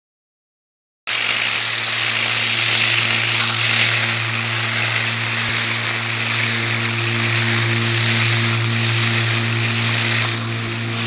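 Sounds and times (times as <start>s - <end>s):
dense electronic hiss: 1.1s - 11.0s
low hum: 1.1s - 11.0s
pulsing high tone: 1.1s - 11.0s.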